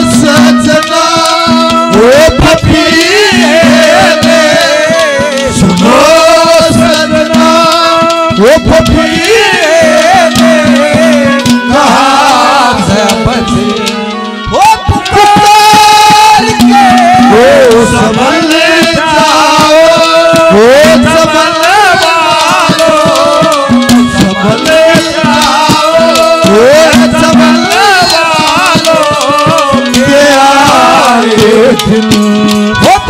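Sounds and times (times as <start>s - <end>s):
hand drum beating: 0.0s - 33.0s
ornamented lead melody: 0.0s - 33.0s.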